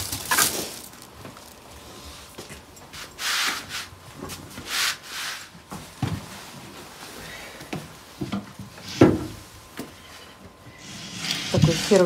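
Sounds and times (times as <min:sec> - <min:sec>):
rustling and rubbing of items: 0:00.0 - 0:07.2, 0:08.0 - 0:12.0.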